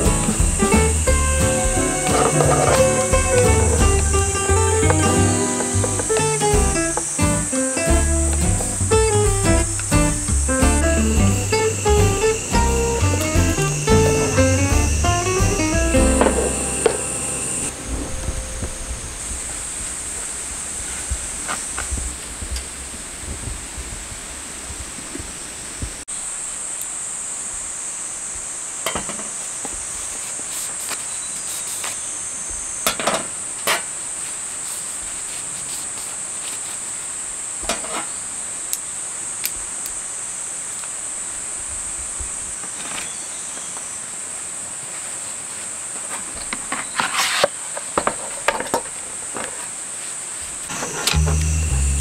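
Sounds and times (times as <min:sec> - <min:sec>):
insects buzzing: 0:00.0 - 0:22.0, 0:25.3 - 0:44.8, 0:46.7 - 0:52.0.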